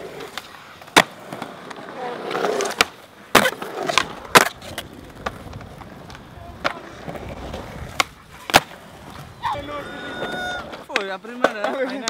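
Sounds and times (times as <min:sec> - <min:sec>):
skateboard clacks: 0:00.0 - 0:09.3, 0:10.0 - 0:12.0
skateboard wheels rolling on concrete: 0:00.0 - 0:12.0.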